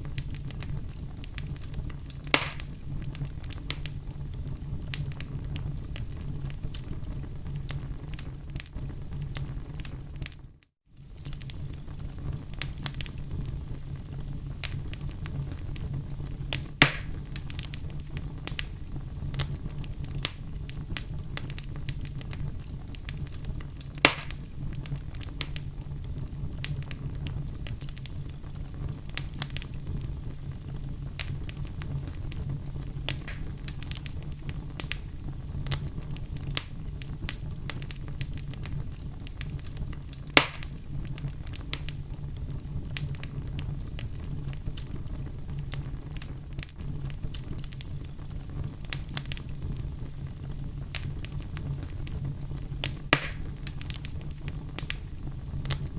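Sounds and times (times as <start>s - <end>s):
fire crackling in fireplace: 0.0s - 55.9s
loud fire pops: 0.0s - 55.9s
low fire rumble: 0.0s - 55.9s.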